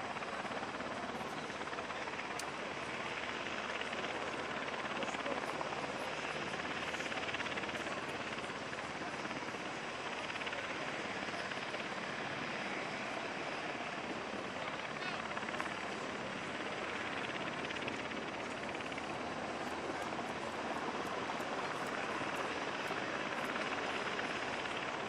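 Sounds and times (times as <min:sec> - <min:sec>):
aircraft engine running: 0:00.0 - 0:25.0
crowd talking: 0:00.1 - 0:25.0.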